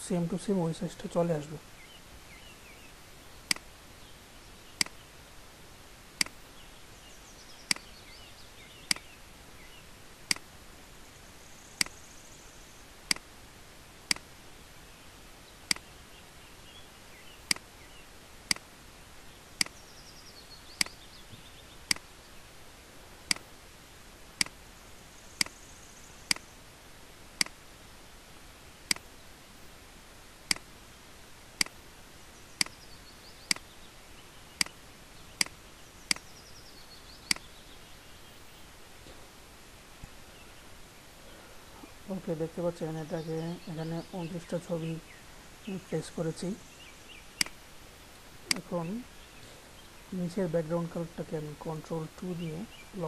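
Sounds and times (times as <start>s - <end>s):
steady low hiss: 0.0s - 53.0s.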